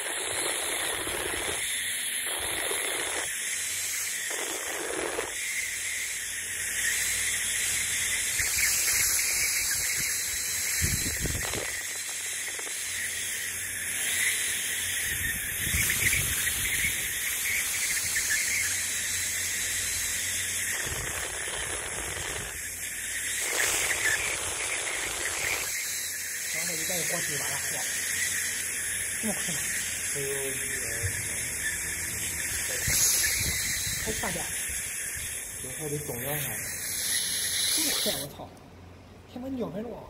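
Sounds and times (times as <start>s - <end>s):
laser marking machine hissing: 0.0s - 38.4s.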